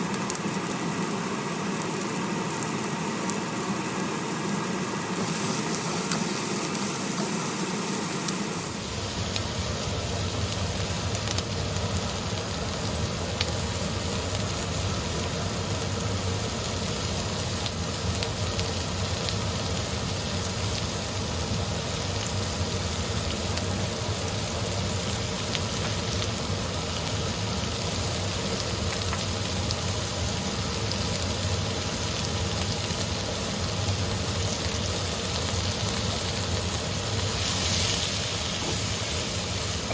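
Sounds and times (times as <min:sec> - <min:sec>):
food sizzling in a pan: 0:00.0 - 0:39.9
low mechanical hum: 0:00.0 - 0:39.9.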